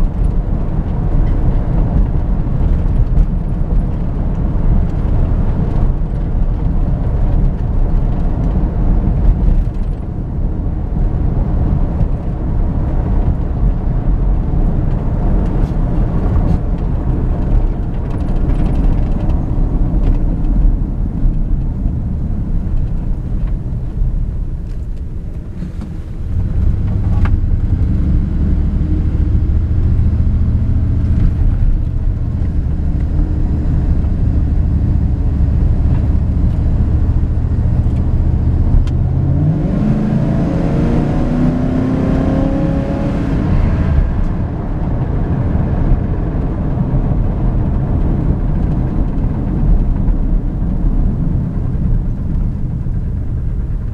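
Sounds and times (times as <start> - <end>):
road rumble: 0.0 - 53.9
truck engine: 0.0 - 53.9.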